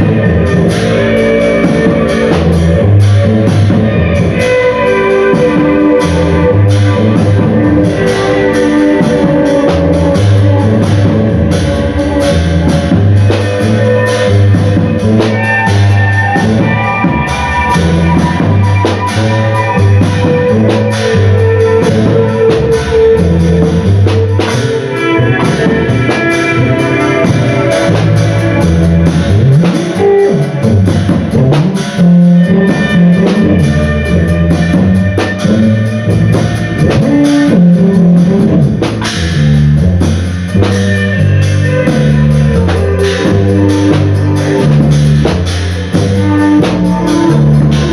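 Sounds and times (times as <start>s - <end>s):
drum kit hits: 0.0s - 47.9s
guitar: 0.0s - 47.9s
low bass line: 0.0s - 47.9s.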